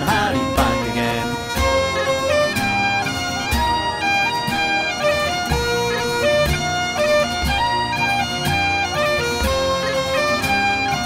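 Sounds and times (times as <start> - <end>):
bagpipe tune with steady beat: 0.0 - 11.0.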